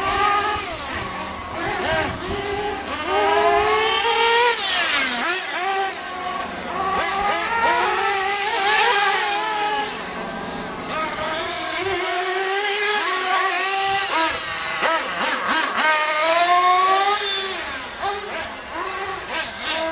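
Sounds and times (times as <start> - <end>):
small model car engines racing: 0.0 - 19.9.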